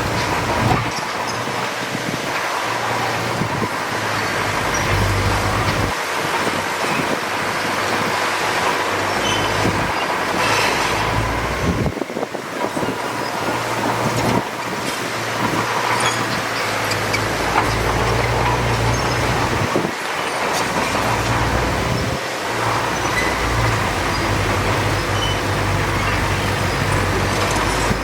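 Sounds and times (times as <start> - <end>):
diesel earthmoving machinery running: 0.0 - 28.0.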